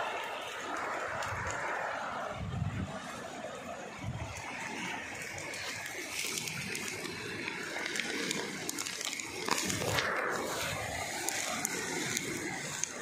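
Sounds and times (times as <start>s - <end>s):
floodwater flowing: 0.0s - 13.0s.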